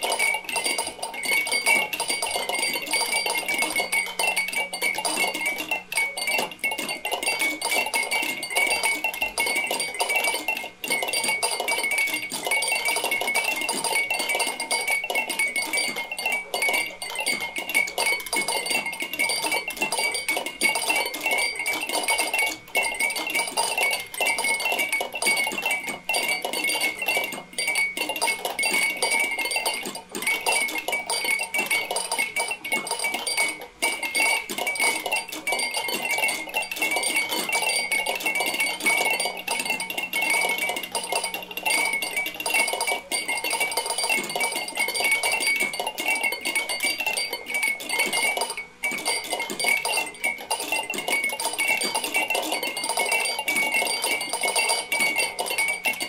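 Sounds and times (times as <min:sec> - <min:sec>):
glassy clinks and taps clattering: 0:00.0 - 0:56.0.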